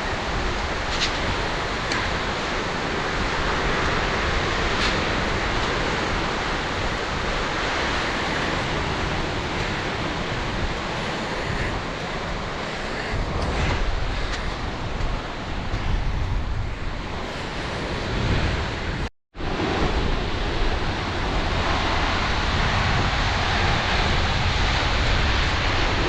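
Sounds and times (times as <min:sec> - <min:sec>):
surf washing on shore: 0:00.0 - 0:26.0
wind buffeting microphone: 0:00.0 - 0:26.0.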